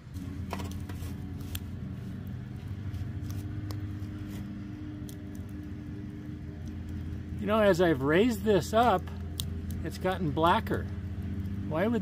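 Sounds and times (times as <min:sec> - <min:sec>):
low motor-like hum: 0:00.0 - 0:12.0.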